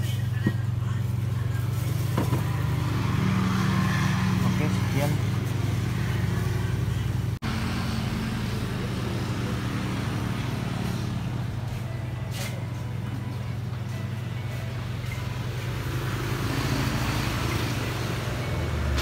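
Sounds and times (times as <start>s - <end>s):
cooling unit humming: 0.0s - 19.0s.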